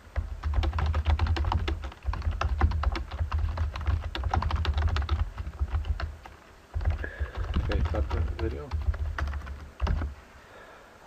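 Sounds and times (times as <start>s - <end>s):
fast typing on keyboard: 0.0s - 10.1s.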